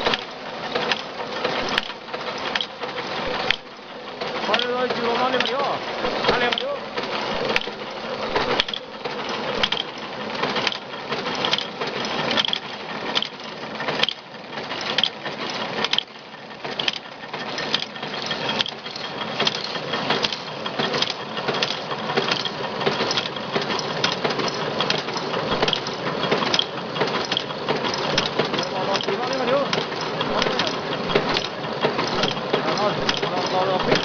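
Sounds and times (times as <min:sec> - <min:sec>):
continuous mechanical noise: 0:00.0 - 0:34.0
machine clacking: 0:00.0 - 0:34.0.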